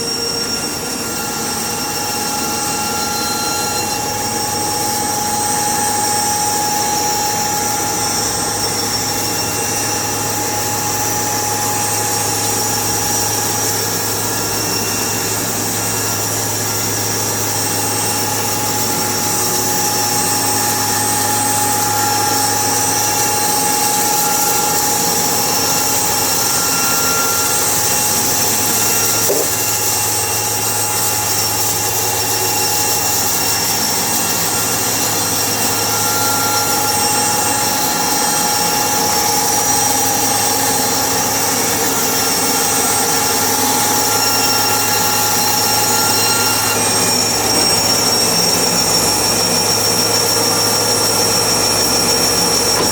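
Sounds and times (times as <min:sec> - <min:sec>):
high machine whine: 0:00.0 - 0:52.9
sawmill machinery drone: 0:00.0 - 0:52.9.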